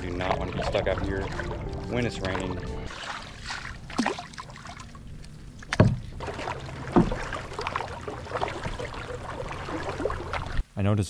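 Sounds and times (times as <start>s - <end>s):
kayak paddle splashing: 0.0s - 10.6s
water washing: 0.0s - 10.6s.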